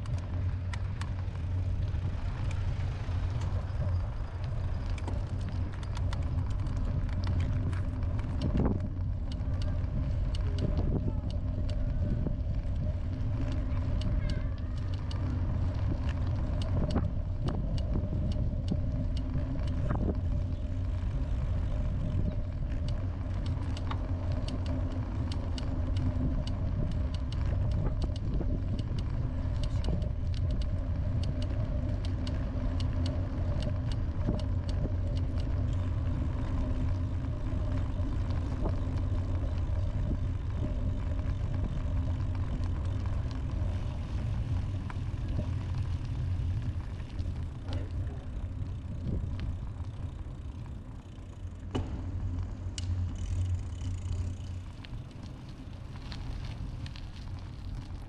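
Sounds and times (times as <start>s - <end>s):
small clicks and rattles: 0.0s - 58.0s
vehicle rumble and hum: 0.0s - 58.0s.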